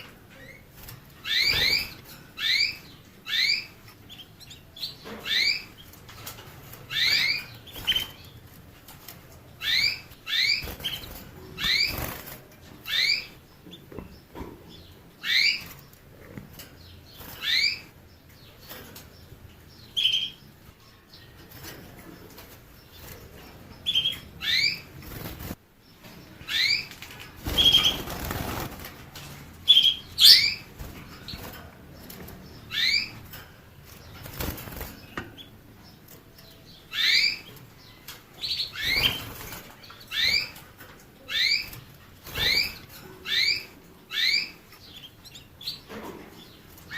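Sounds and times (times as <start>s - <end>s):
canary chirping: 0.0s - 46.9s.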